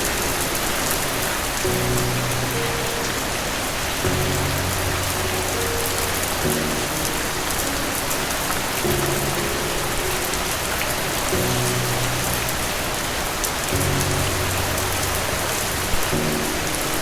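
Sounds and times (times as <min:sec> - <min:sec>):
soft low piano chords: 0:00.0 - 0:17.0
steady rain falling: 0:00.0 - 0:17.0.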